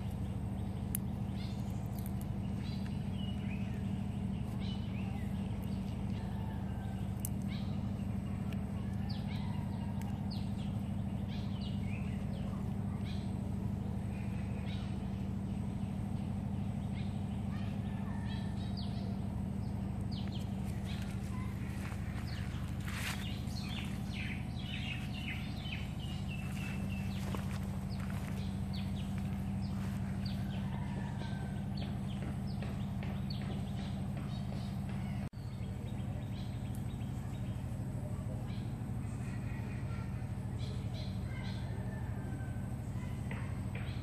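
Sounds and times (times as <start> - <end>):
birds chirping: 0.0 - 44.0
steady low hum: 0.0 - 44.0.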